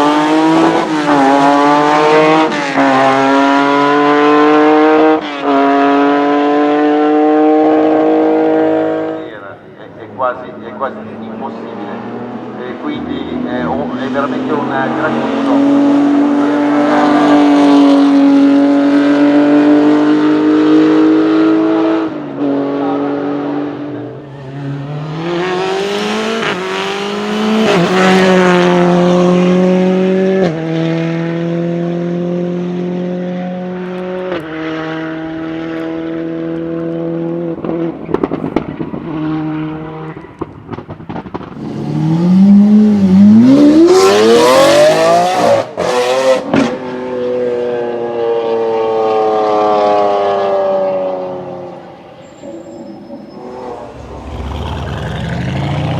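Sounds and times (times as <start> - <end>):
racing car engine revving: 0.0 - 55.9.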